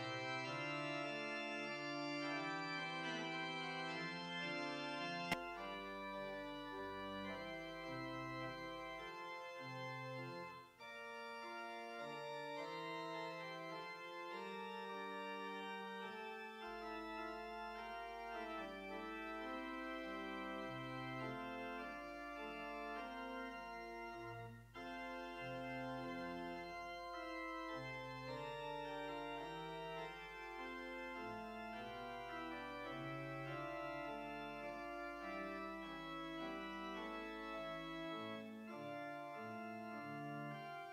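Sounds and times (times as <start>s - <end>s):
church organ playing chords: 0.0s - 40.9s.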